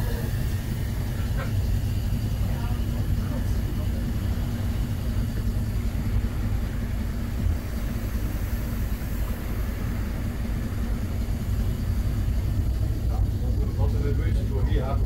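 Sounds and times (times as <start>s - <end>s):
ship engine rumble: 0.0s - 15.0s.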